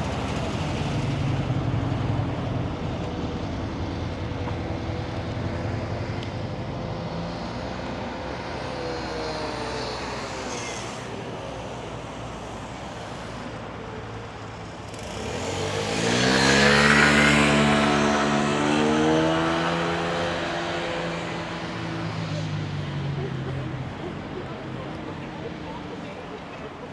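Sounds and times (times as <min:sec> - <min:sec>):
engine running steadily: 0:00.0 - 0:19.1, 0:19.8 - 0:26.9
motor vehicle accelerating: 0:00.0 - 0:26.9.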